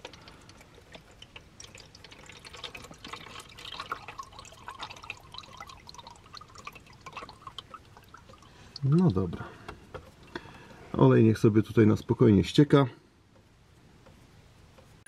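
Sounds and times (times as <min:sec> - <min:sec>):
oil trickling into container: 0:00.0 - 0:12.2.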